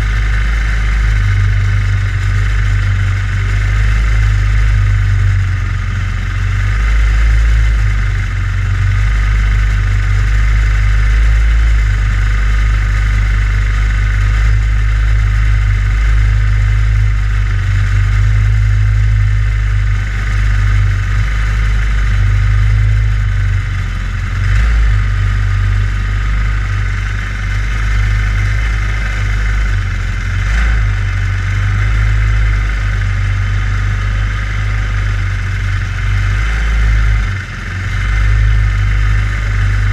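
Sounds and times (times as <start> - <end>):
kart engine idling: 0.0 - 39.9.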